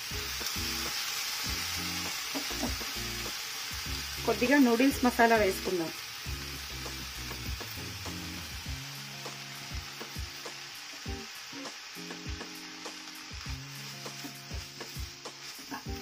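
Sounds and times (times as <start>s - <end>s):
noodles sizzling in a wok: 0.0s - 16.0s.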